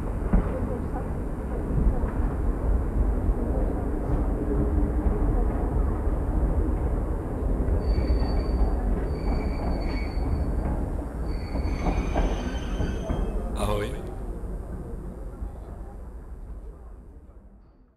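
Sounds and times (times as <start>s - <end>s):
train rumbling: 0.0s - 17.5s.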